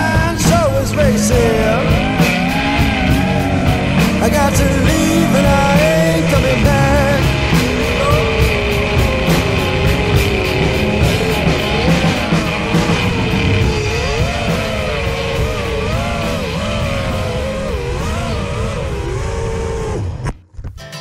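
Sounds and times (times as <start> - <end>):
rock music with steady beat: 0.0 - 18.4.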